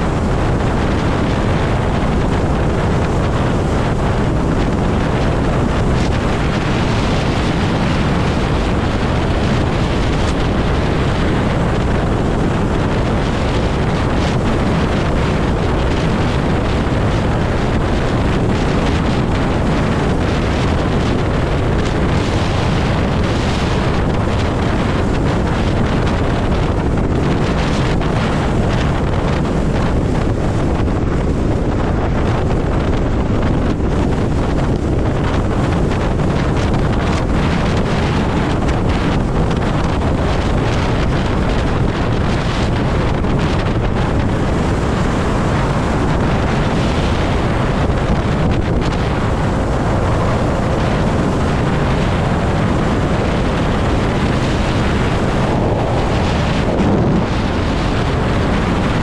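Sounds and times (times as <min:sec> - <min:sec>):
road noise: 0:00.0 - 0:59.0
wind rush over microphone: 0:00.0 - 0:59.0.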